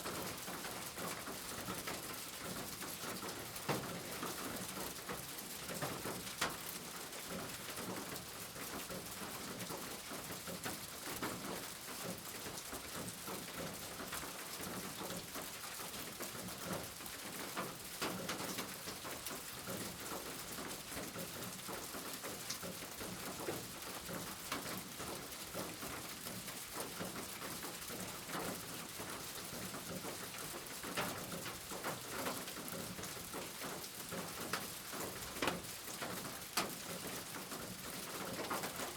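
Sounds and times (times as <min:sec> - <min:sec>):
raindrops ticking on a surface: 0:00.0 - 0:38.9
steady rain falling: 0:00.0 - 0:38.9.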